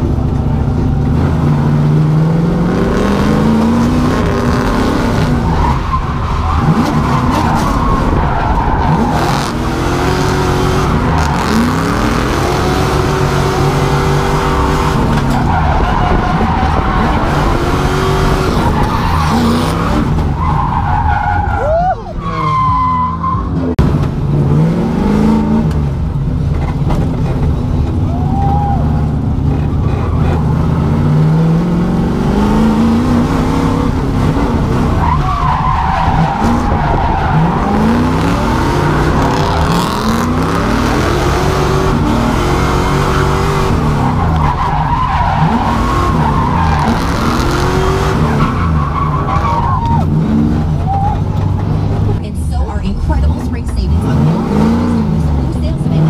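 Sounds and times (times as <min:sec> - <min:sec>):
car engine revving: 0:00.0 - 0:56.0
tyres skidding and squealing: 0:00.0 - 0:56.0.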